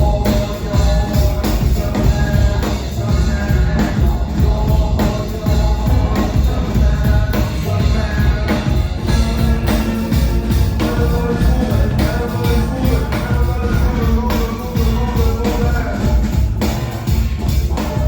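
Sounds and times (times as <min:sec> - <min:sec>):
live rock band playing: 0:00.0 - 0:18.0
steady drum beat: 0:00.0 - 0:18.0.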